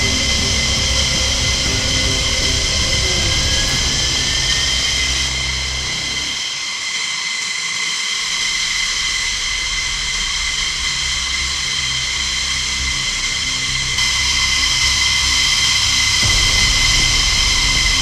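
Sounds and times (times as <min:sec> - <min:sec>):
low engine rumble: 0:00.0 - 0:06.4, 0:08.6 - 0:18.0
jet turbine whine: 0:00.0 - 0:18.0.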